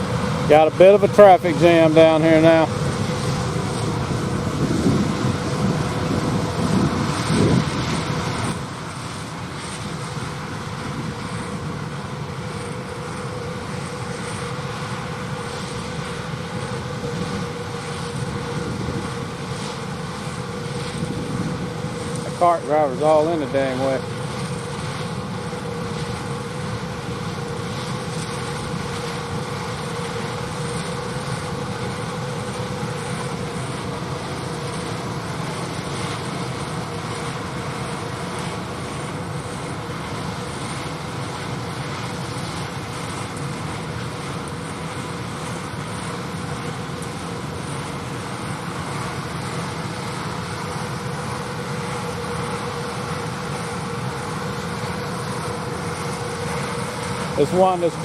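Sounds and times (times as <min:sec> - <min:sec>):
mid-pitched whine: 0:00.0 - 0:58.0
tractors droning: 0:00.0 - 0:58.0.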